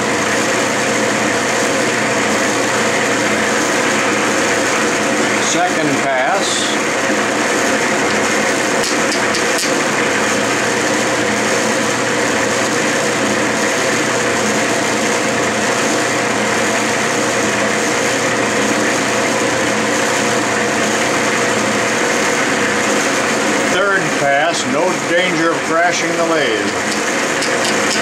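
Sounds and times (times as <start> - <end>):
metal lathe humming: 0.0 - 28.0.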